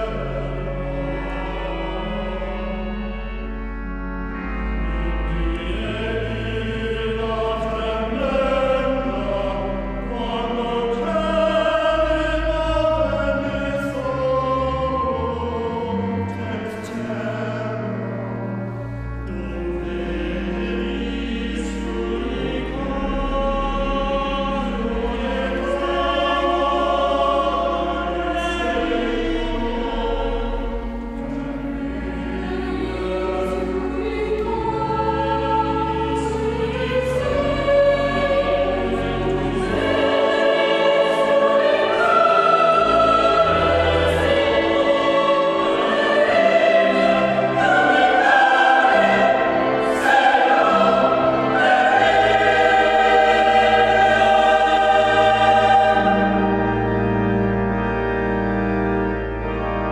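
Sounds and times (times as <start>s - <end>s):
mixed choir singing: 0.0s - 3.4s, 4.6s - 18.1s, 19.3s - 59.9s.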